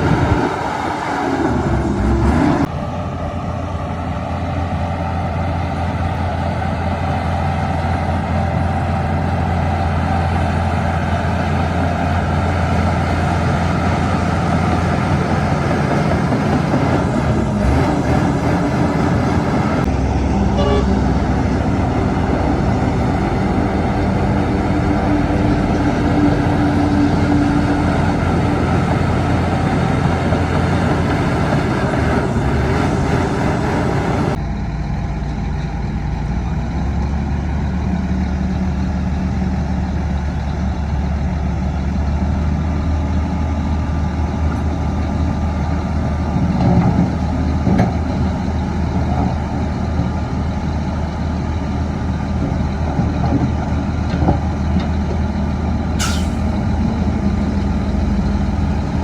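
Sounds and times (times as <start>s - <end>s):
heavy diesel engines running: 0.0s - 59.0s.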